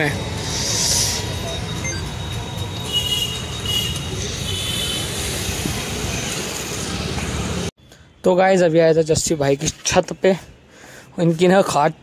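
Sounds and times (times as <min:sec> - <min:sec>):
street traffic din: 0:00.0 - 0:12.0.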